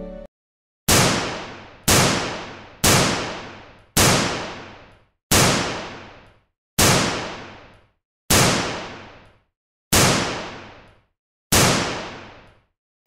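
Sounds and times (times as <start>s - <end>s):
gunshots with ringing tail: 0.9s - 12.6s.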